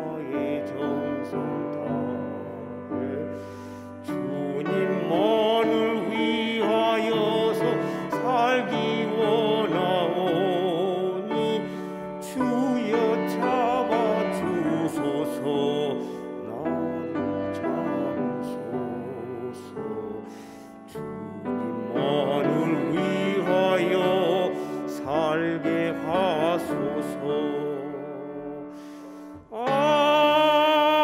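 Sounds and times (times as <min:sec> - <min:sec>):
man singing a hymn with vibrato: 0:00.0 - 0:31.0.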